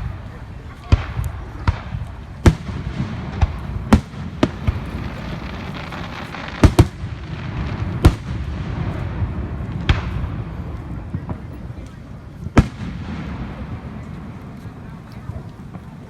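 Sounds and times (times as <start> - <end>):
continuous low rumble: 0.0 - 16.0
fireworks banging: 0.0 - 16.0.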